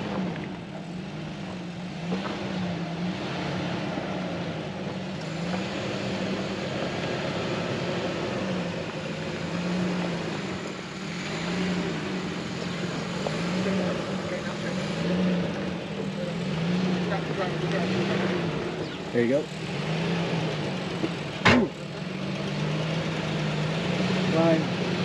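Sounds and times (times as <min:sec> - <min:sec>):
car engine at low revs: 0:00.0 - 0:25.0.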